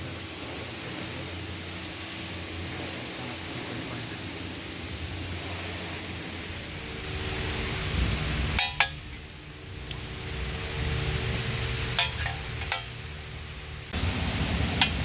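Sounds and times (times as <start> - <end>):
low hum: 0.0 - 15.0
steady hiss: 0.0 - 15.0.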